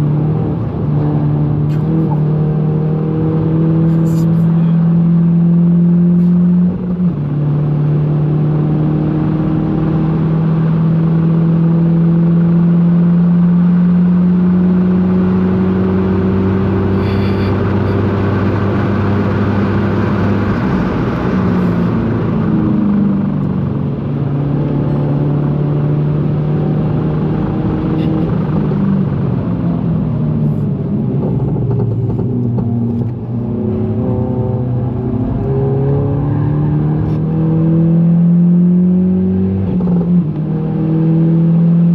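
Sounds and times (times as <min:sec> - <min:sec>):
car engine pulling hard: 0:00.0 - 0:41.9.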